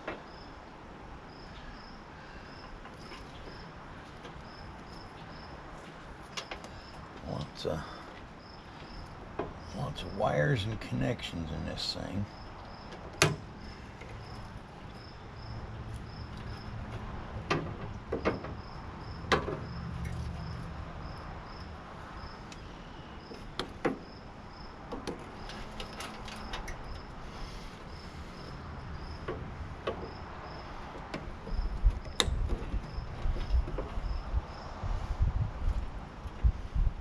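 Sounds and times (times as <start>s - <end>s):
cricket chirping: 0.0s - 0.6s, 1.2s - 34.9s.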